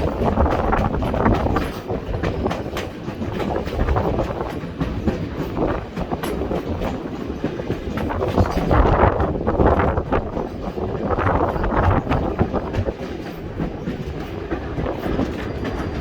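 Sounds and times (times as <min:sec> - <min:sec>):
train car rumble: 0:00.0 - 0:16.0
wheels clicking over rail joints: 0:00.0 - 0:16.0.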